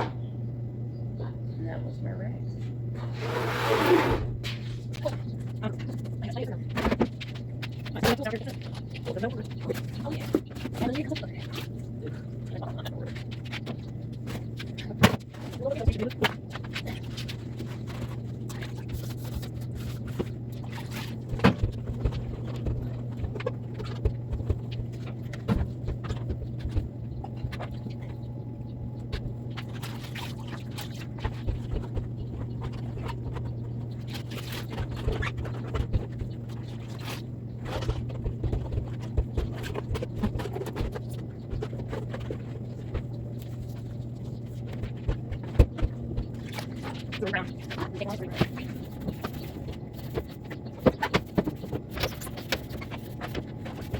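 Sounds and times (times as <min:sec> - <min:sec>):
steady low hum: 0:00.0 - 0:53.9
scraping and scrubbing: 0:03.0 - 0:53.9.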